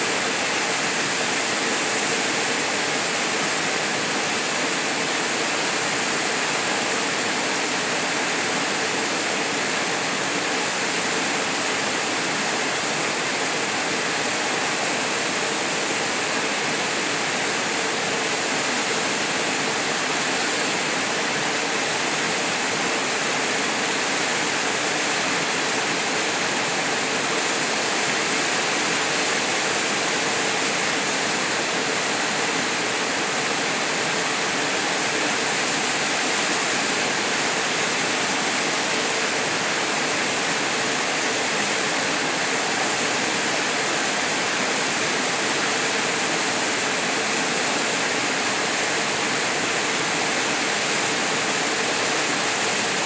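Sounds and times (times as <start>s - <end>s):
waterfall rushing into pool: 0.0s - 53.0s.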